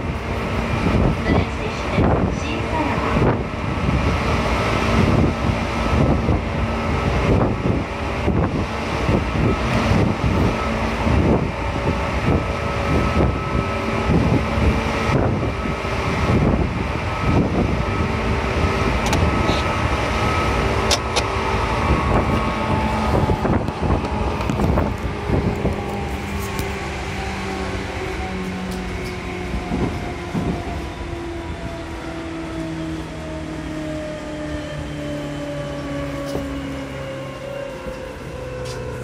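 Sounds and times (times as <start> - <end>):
constant hum tones: 0.0 - 39.0
train wheels rumbling on rail: 0.0 - 39.0.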